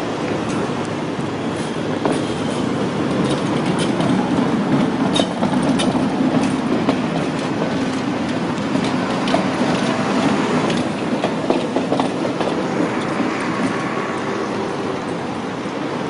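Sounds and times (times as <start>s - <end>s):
tram wheels rumbling on rails: 0.0s - 16.0s
wheels clacking on track: 0.0s - 16.0s.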